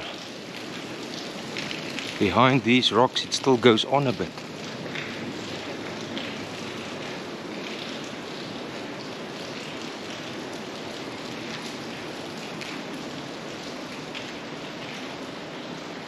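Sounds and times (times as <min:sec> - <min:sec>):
water dripping from rock: 0:00.0 - 0:15.9.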